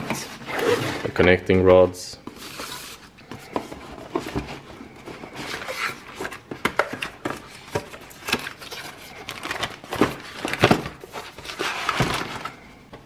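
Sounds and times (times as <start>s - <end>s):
plastic wrapping rustling: 2.3s - 12.8s.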